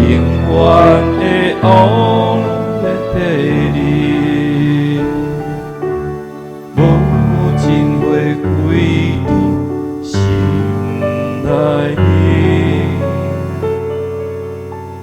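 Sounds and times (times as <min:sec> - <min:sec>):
slow gentle piano chords: 0:00.0 - 0:15.0.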